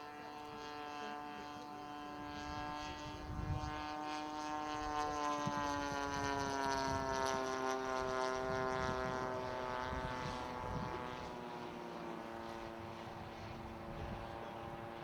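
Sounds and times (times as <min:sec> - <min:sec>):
model airplane engine droning: 0:00.0 - 0:15.0.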